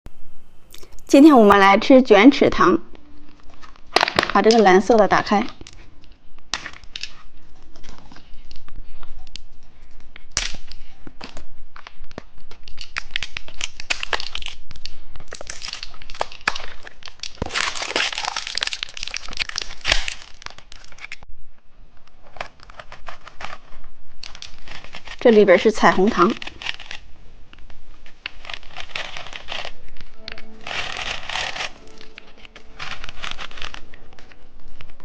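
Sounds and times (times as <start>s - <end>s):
candy wrapper crinkling: 2.9s - 21.2s, 22.0s - 35.0s.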